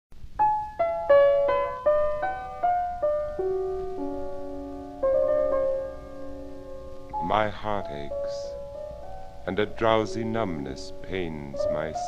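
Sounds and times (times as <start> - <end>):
solo piano notes: 0.4 - 12.0.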